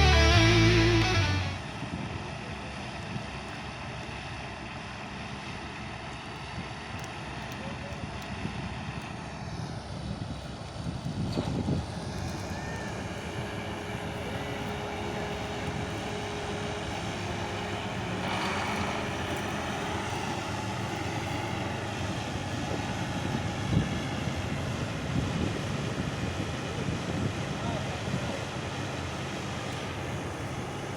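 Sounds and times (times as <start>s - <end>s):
diesel engine running under load: 0.0s - 7.4s, 8.5s - 30.9s.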